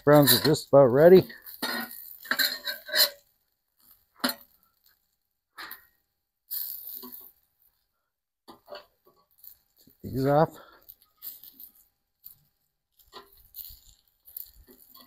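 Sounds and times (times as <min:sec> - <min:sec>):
metal spatula scraping on grill: 0:00.0 - 0:07.7, 0:08.5 - 0:15.0.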